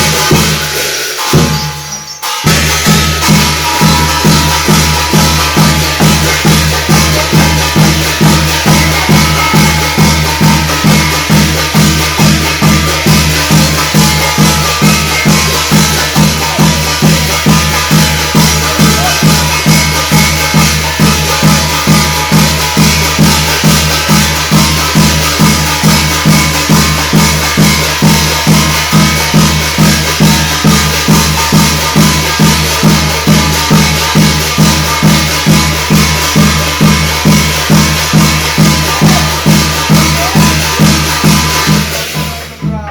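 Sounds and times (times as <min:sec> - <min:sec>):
drum keeping an even beat: 0:00.0 - 0:42.9
jangling rattling percussion: 0:00.0 - 0:42.9.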